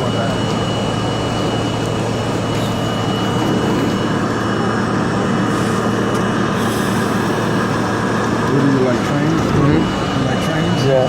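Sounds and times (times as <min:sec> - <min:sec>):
subway car wheels rumbling: 0:01.5 - 0:11.0.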